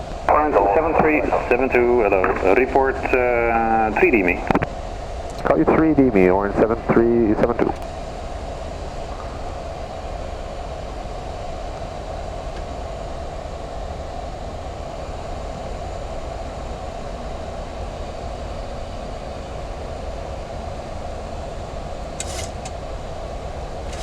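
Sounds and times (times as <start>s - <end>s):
airflow and engine noise: 0.0s - 24.0s
steady hum: 0.0s - 24.0s.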